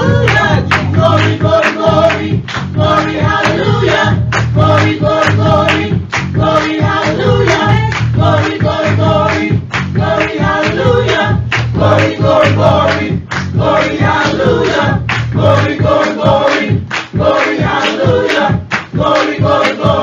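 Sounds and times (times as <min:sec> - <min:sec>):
choir singing: 0:00.0 - 0:20.0
hand claps: 0:00.0 - 0:20.0.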